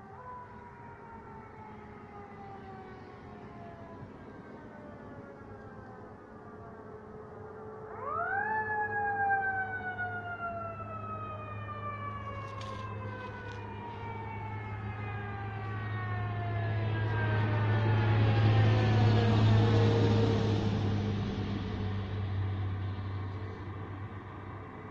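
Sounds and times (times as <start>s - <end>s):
fire engine siren: 0.0s - 24.9s
road noise: 0.0s - 24.9s
truck engine drone: 0.7s - 24.9s.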